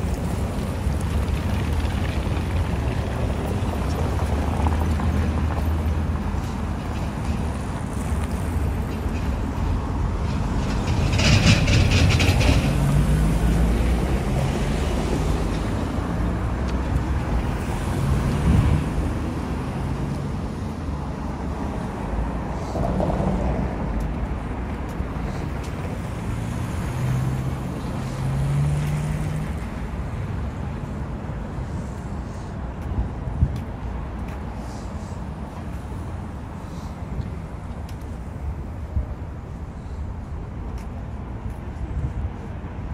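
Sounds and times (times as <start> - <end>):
cars passing: 0.0 - 42.9.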